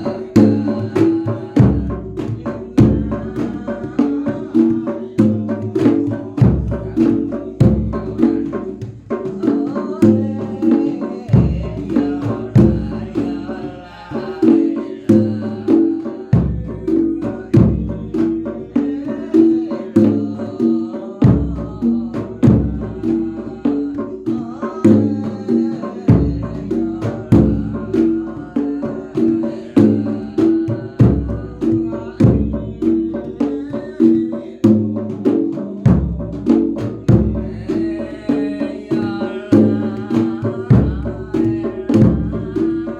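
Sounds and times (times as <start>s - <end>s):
folk percussion music: 0.0s - 42.9s
sharp quick drum strokes: 0.0s - 42.9s.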